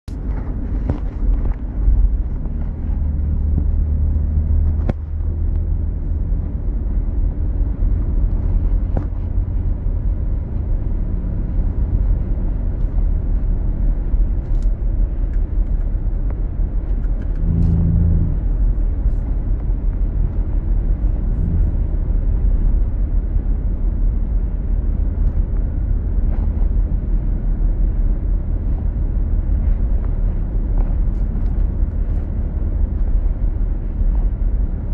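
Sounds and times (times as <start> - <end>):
car road and engine rumble: 0.0 - 34.9
low hum: 0.1 - 34.9.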